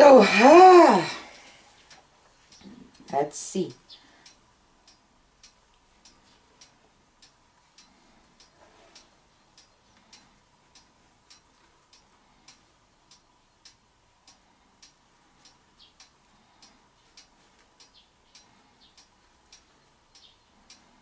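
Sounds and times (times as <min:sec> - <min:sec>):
clock ticking: 0:01.9 - 0:21.0.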